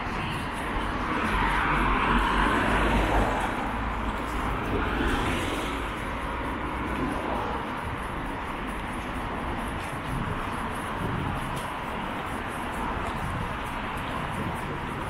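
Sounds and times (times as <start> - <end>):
cars passing by: 0.0 - 15.0.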